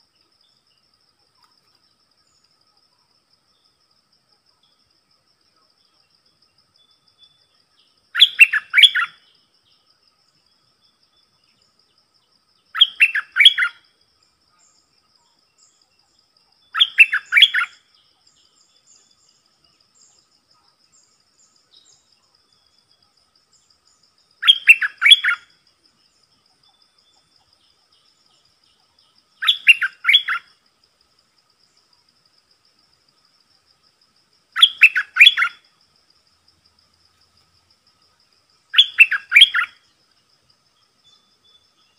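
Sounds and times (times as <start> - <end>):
faint insect trill: 0.0 - 41.9.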